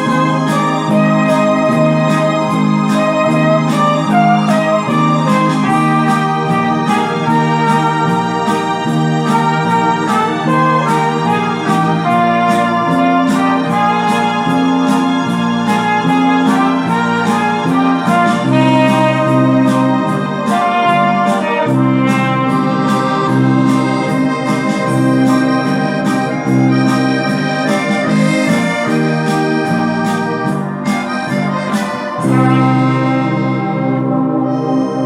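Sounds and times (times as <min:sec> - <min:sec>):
low organ-like chords: 0:00.0 - 0:35.0
trumpet melody: 0:00.0 - 0:35.0.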